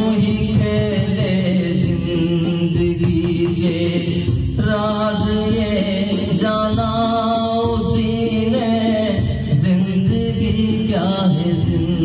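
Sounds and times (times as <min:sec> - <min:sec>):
man singing into microphone: 0:00.0 - 0:12.0
musical backing: 0:00.0 - 0:12.0.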